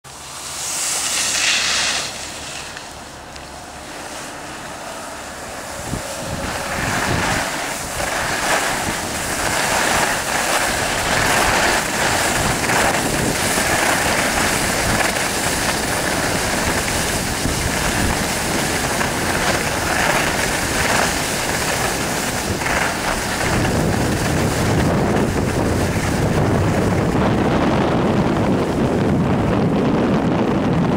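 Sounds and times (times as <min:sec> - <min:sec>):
skis hissing on snow: 0:00.1 - 0:27.0
wind rushing over microphone: 0:00.1 - 0:30.9
deep rumble: 0:00.6 - 0:30.9.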